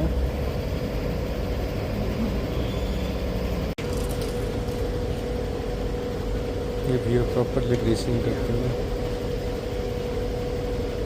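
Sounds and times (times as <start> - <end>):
constant hum: 0.0 - 11.0
low rumble of road traffic: 0.0 - 11.0.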